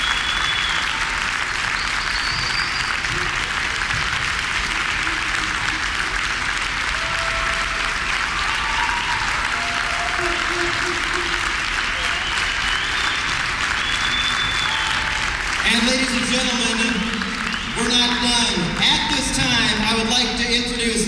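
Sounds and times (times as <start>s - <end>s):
crowd applauding: 0.0s - 21.0s.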